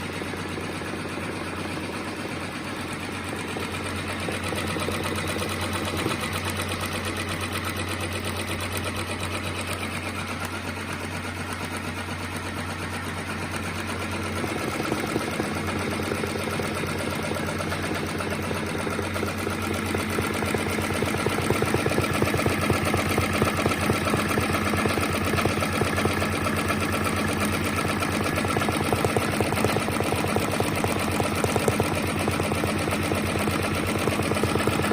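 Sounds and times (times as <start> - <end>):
sewing machine stitching: 0.0 - 34.9.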